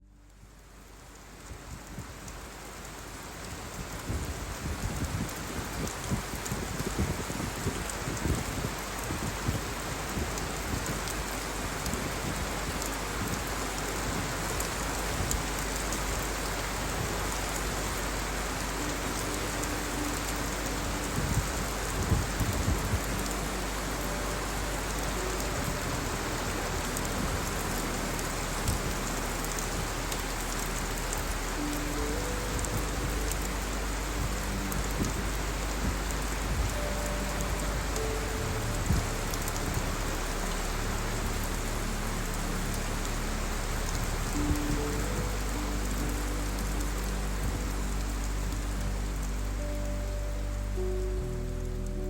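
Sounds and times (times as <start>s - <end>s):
steady rainfall: 0.0s - 52.0s
rain spattering: 0.2s - 52.0s.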